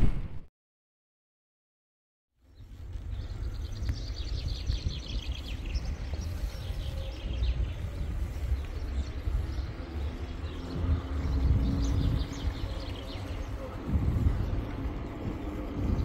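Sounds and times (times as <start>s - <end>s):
small birds chirping: 2.4s - 16.0s.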